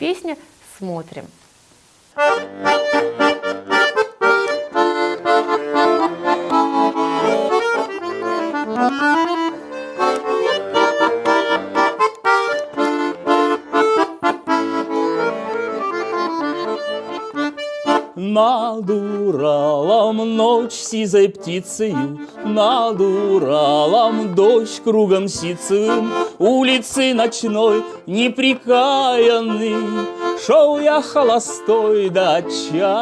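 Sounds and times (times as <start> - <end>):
button accordion playing: 2.2 - 33.0.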